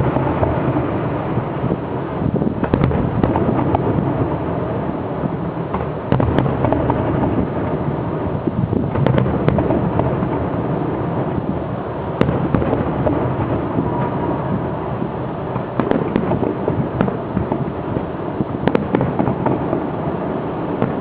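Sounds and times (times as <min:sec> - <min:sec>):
fireworks crackling: 0:00.0 - 0:21.0
loud firework bangs: 0:00.0 - 0:21.0.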